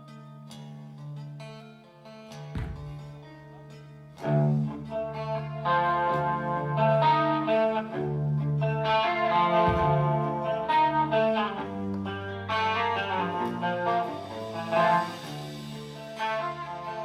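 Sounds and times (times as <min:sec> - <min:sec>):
slow heavy metal guitar: 0:02.2 - 0:17.0.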